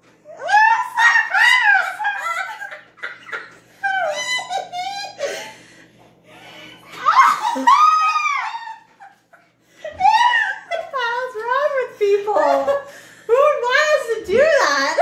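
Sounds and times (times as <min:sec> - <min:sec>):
women laughing: 0:00.3 - 0:13.4.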